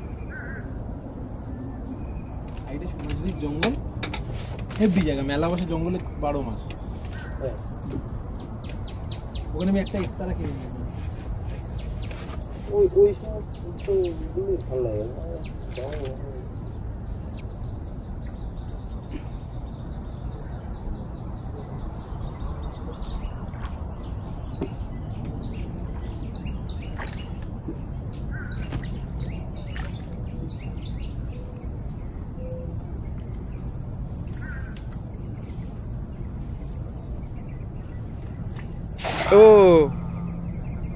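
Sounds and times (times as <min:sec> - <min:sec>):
insects droning high-pitched: 0:00.0 - 0:40.9.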